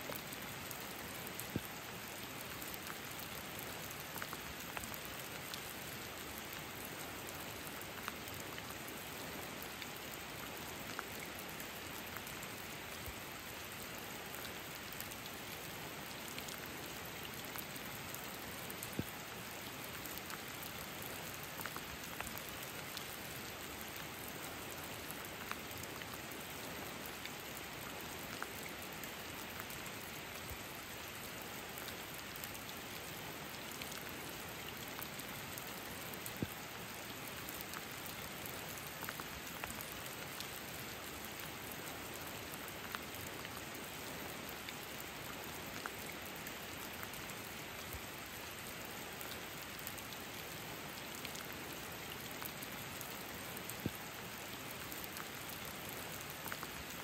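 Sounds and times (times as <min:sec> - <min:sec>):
close raindrops striking: 0:00.0 - 0:57.0
steady rain: 0:00.0 - 0:57.0.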